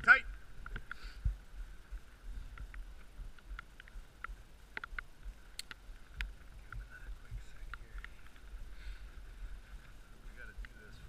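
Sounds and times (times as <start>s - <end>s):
sled runners rumbling on snow: 0.1s - 11.0s.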